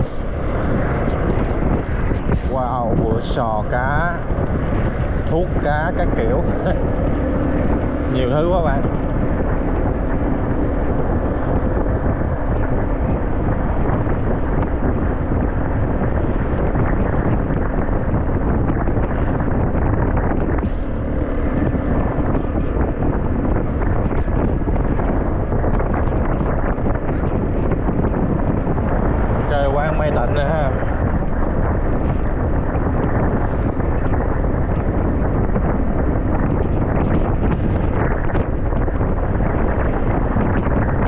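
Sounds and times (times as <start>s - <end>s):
vehicle running noise: 0.0s - 41.0s
wind buffeting microphone: 0.0s - 41.0s.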